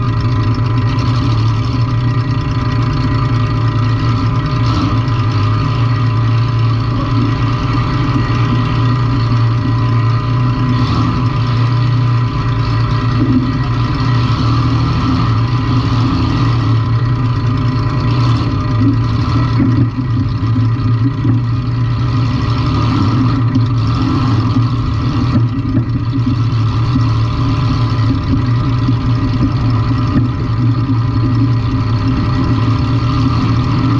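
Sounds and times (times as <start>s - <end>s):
car engine droning: 0.0s - 33.9s.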